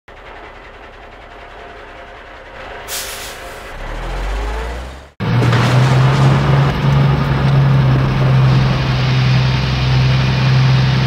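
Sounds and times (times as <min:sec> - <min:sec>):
truck engine running: 0:00.1 - 0:11.0.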